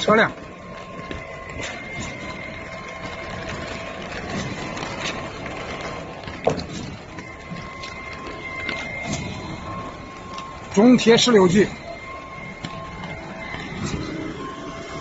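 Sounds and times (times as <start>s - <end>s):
faint steady whine: 0.0s - 15.0s
outdoor background noise: 0.0s - 15.0s.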